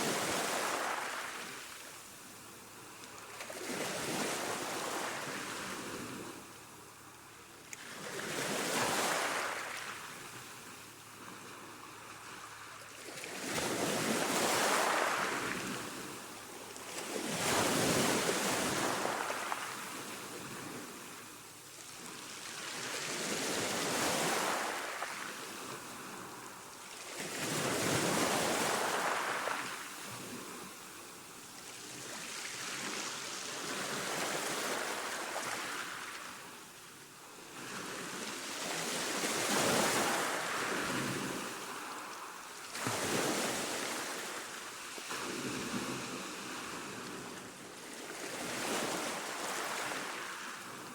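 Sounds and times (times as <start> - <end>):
ocean waves washing ashore: 0.0 - 7.2, 7.8 - 36.7, 37.4 - 50.9.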